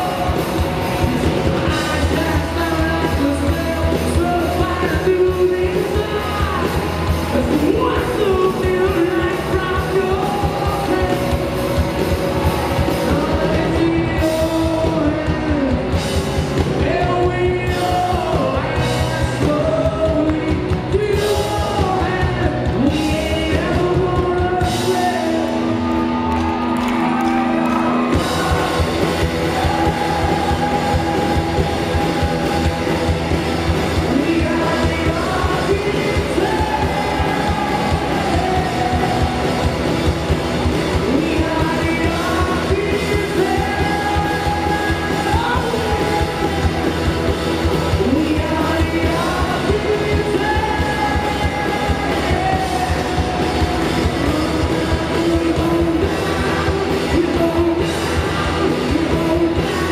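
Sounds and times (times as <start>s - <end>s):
man singing: 0.0s - 12.0s, 12.8s - 26.3s, 27.1s - 59.9s
live rock band: 0.0s - 59.9s.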